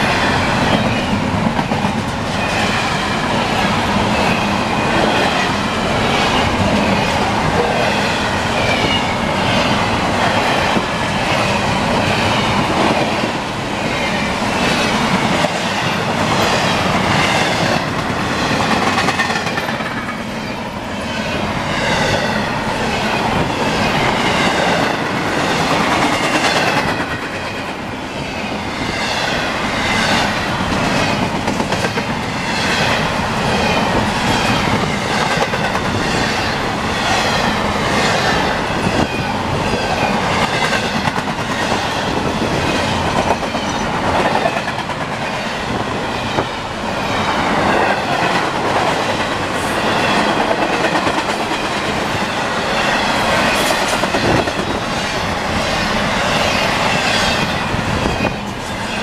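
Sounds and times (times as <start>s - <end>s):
train wheels clacking: 0.0s - 20.8s, 21.8s - 27.8s, 28.9s - 46.5s, 47.1s - 59.0s
freight train rumbling past: 0.0s - 59.0s.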